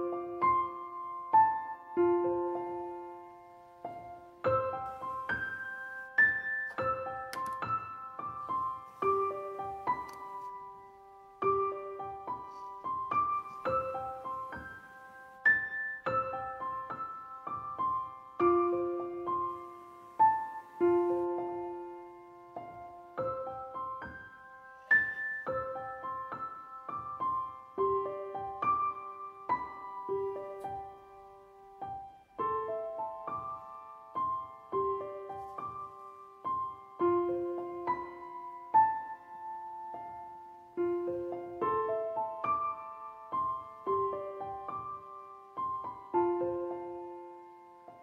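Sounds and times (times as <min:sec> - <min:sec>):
slow piano melody: 0:00.0 - 0:48.0.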